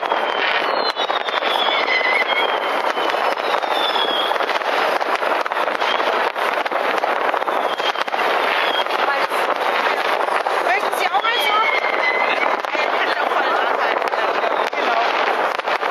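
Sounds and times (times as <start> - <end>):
fireworks and firecrackers crackling: 0.0 - 15.9
whistling rockets: 0.0 - 15.9.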